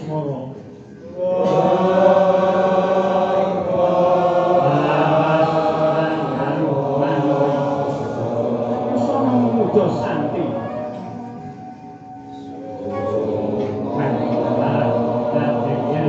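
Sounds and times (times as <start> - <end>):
voices chanting together: 0.8 - 16.0.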